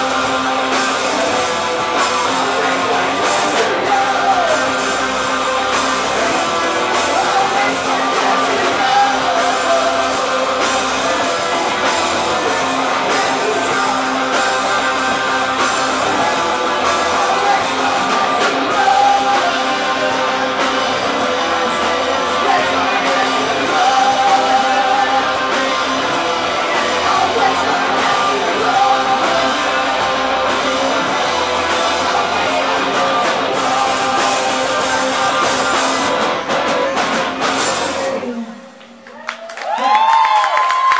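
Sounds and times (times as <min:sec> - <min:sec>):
live rock band playing: 0:00.0 - 0:38.7
male singer: 0:00.0 - 0:39.0.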